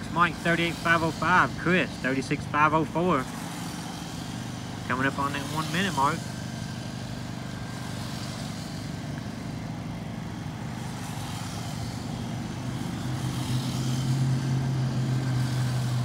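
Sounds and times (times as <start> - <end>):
radio-controlled truck motor hum: 0.0 - 16.0.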